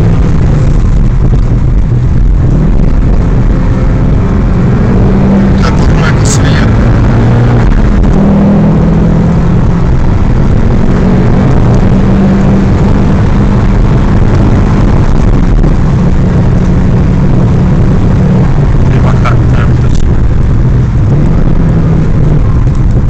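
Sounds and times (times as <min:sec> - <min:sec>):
car engine running: 0:00.0 - 0:23.0
road and wind noise: 0:00.0 - 0:23.0.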